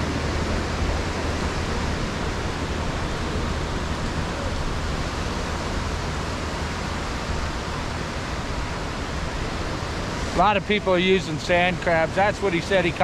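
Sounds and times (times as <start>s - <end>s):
wind buffeting microphone: 0.0s - 12.4s
surf breaking on beach: 0.0s - 13.0s.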